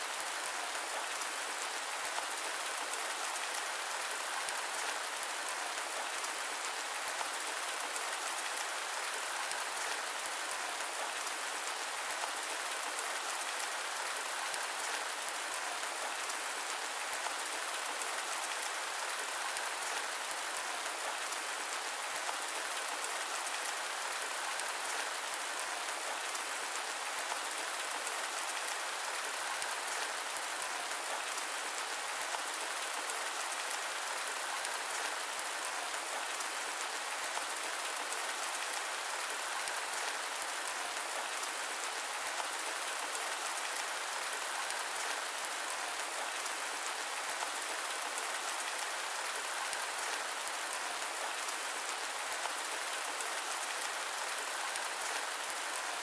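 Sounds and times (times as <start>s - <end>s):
steady rain hissing and pattering: 0.0s - 56.0s.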